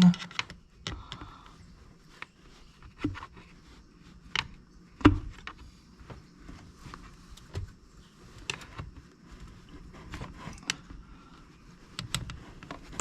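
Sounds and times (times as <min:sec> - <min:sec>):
light clicks and knocks of parts: 0:00.0 - 0:11.1, 0:11.8 - 0:13.0.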